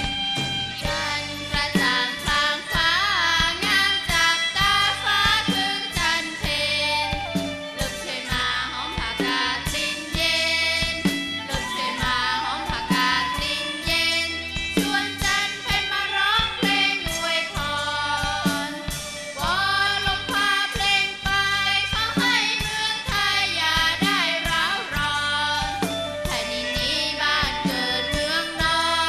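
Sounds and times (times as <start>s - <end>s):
folk band with violins drums guitar: 0.0s - 29.0s
woman singing: 0.8s - 29.0s.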